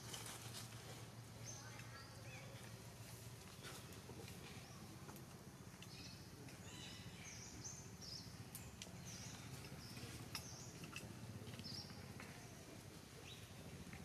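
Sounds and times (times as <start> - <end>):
low steady outdoor hum: 0.0 - 14.0.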